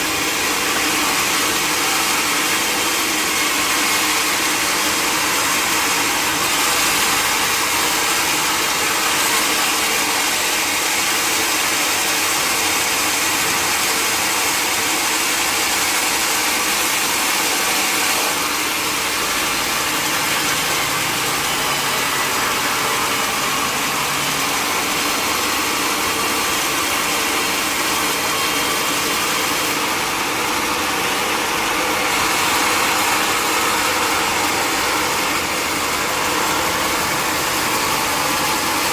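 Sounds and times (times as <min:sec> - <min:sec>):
sawmill machinery drone: 0:00.0 - 0:38.9.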